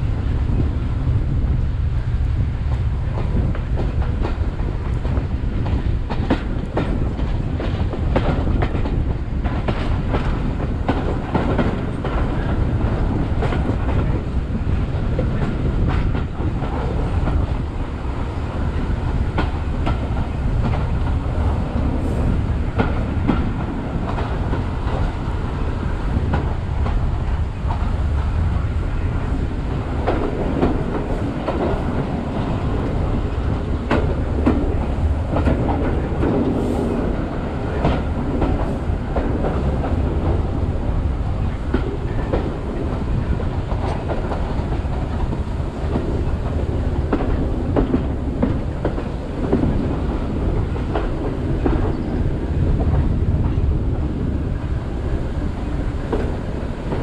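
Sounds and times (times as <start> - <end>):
train rumbling: 0.0 - 57.0
wheels clacking over rail joints: 2.6 - 57.0.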